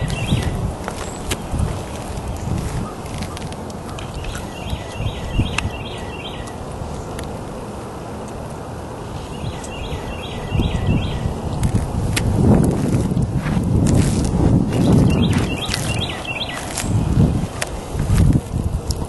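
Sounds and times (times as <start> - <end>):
wind noise on microphone: 0.0 - 7.7, 8.4 - 19.0.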